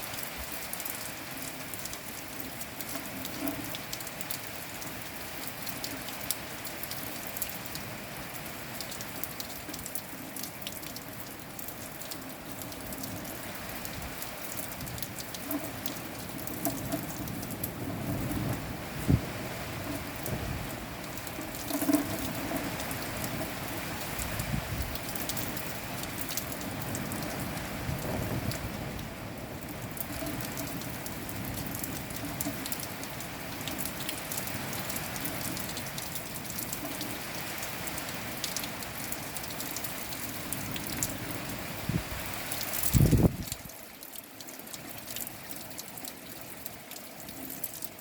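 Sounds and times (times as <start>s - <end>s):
rain drops ticking on a surface: 0.0s - 48.0s.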